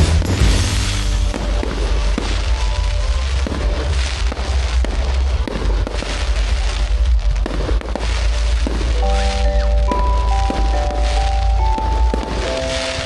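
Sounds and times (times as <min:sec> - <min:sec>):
low rumble: 0:00.0 - 0:12.7
fireworks bangs and crackles: 0:00.0 - 0:13.0.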